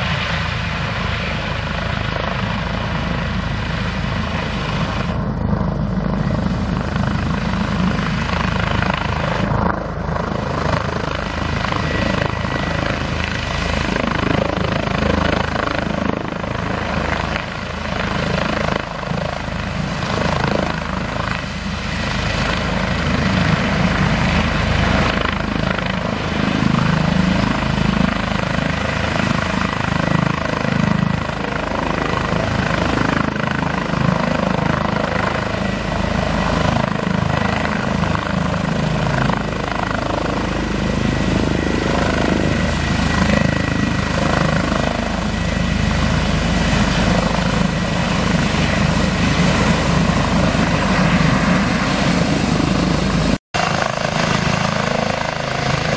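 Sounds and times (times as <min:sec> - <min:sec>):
helicopter rotor and turbine: 0:00.0 - 0:55.9.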